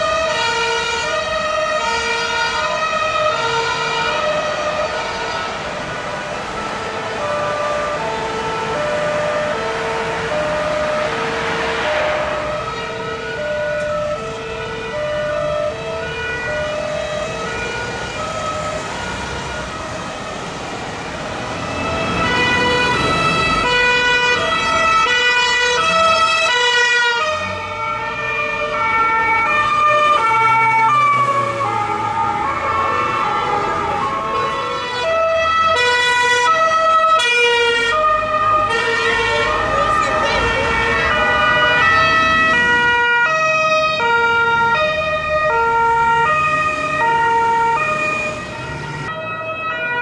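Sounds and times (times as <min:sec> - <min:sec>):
police two-tone sirens: 0:00.0 - 0:50.0
traffic noise: 0:00.0 - 0:50.0.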